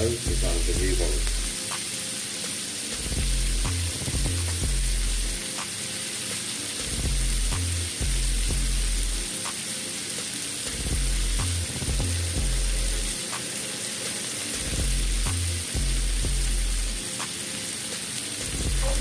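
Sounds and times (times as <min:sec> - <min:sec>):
background music with deep bass: 0:00.0 - 0:19.0
garlic sizzling in butter: 0:00.0 - 0:19.0.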